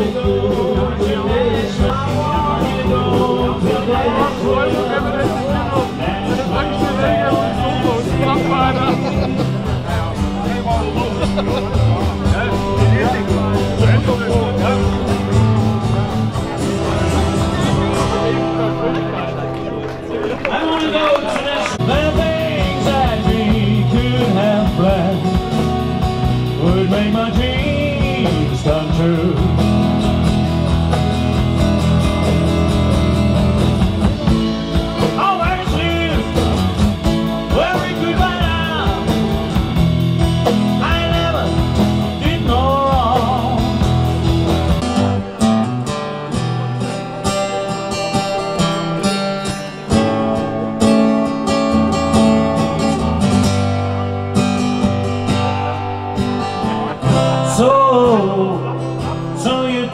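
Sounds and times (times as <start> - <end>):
country band playing: 0.0 - 59.9.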